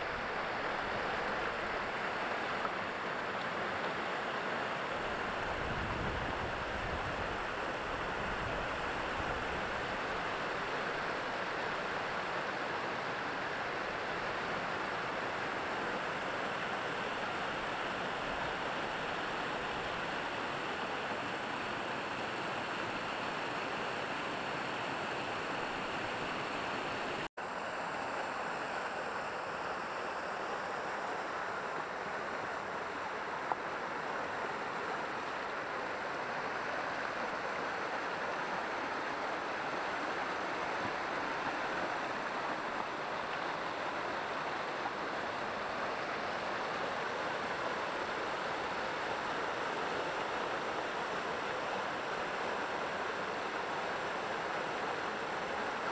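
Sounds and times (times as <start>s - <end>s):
water rushing over rocks: 0.0s - 55.9s.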